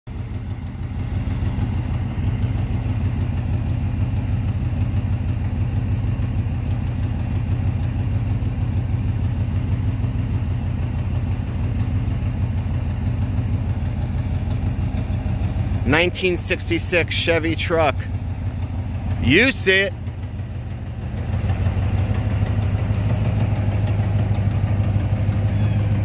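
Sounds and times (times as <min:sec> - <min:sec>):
truck engine idling: 0:00.1 - 0:26.0.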